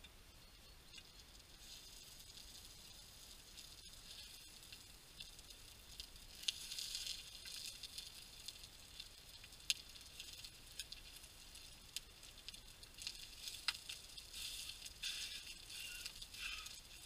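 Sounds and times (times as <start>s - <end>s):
fat popping and crackling: 0.0s - 17.0s
meat sizzling in a frying pan: 0.8s - 17.0s.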